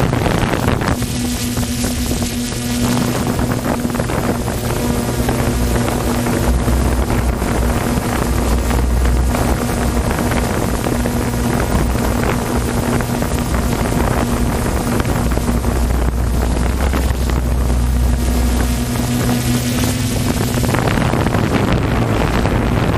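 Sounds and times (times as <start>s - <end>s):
watercraft engine running: 0.0s - 22.9s
wind buffeting microphone: 0.0s - 22.9s.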